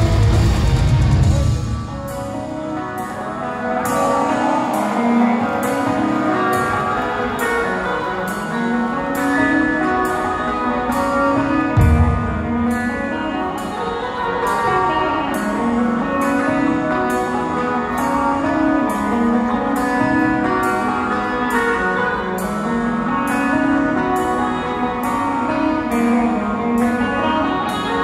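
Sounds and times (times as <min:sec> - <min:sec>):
metal band playing live: 0:00.0 - 0:28.0.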